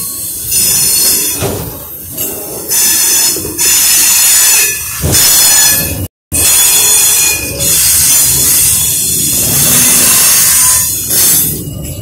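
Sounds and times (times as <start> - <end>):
steel train wheels on rails: 0.0 - 12.0.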